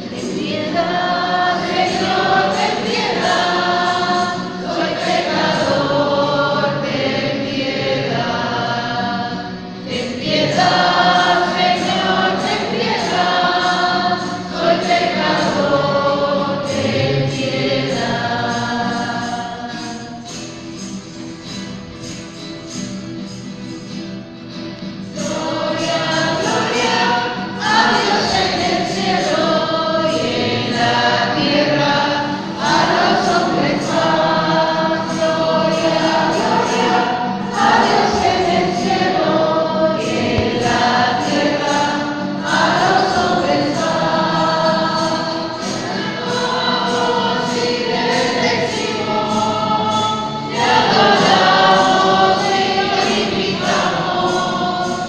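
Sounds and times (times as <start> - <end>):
choir singing a hymn: 0.0 - 23.8, 24.7 - 55.0.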